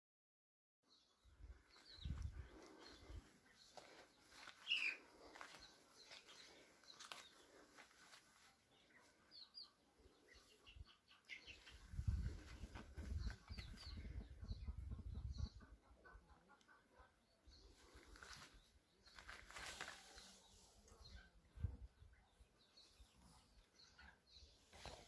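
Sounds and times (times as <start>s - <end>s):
small birds chirping: 0.9s - 25.0s.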